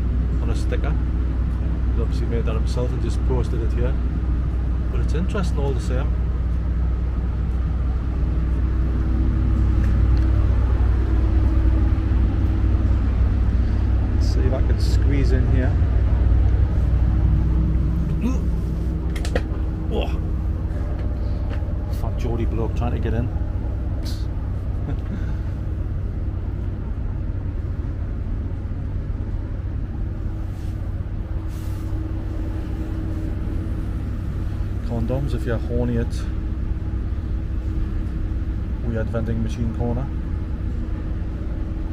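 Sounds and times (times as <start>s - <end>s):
faint steady hum: 0.0s - 41.9s
low rumble: 0.0s - 41.9s.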